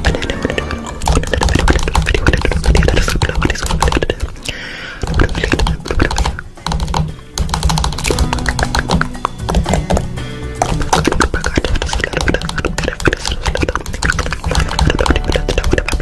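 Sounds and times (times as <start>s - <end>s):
rapid clicks and taps: 0.0s - 16.0s.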